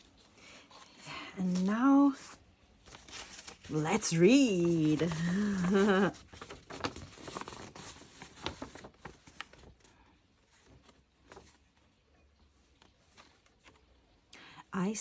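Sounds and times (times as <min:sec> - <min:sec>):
paper rustling and crinkling: 0:00.0 - 0:14.3.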